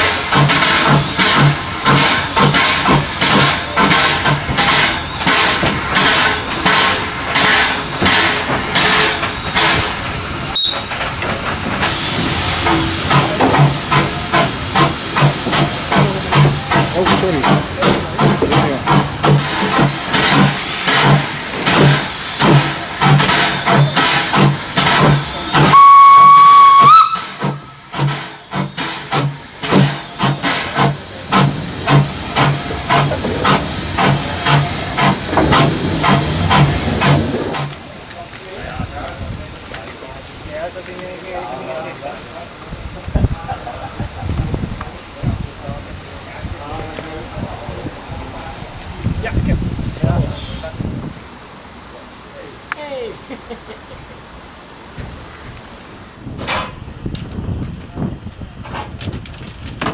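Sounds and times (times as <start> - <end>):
high hiss of steam: 0.0 - 57.0
steam locomotive exhaust chuffs: 0.0 - 59.8.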